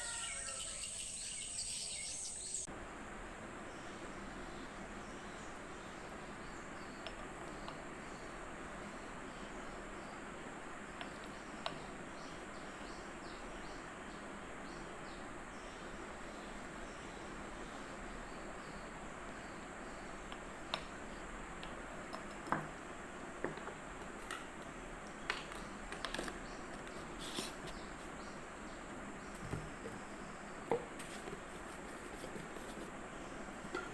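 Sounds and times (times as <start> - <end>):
steady background hiss: 0.0 - 33.9.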